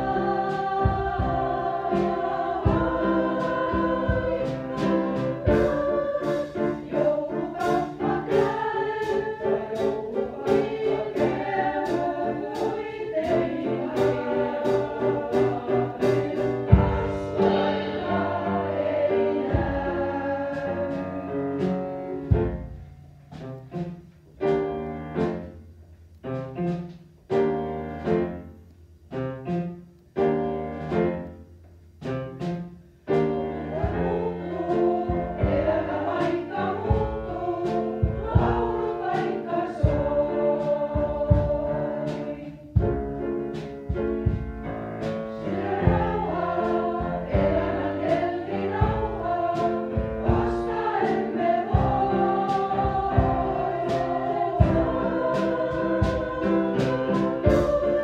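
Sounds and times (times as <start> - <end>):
choir singing: 0.0 - 22.8, 33.1 - 58.0
piano chords: 0.0 - 58.0.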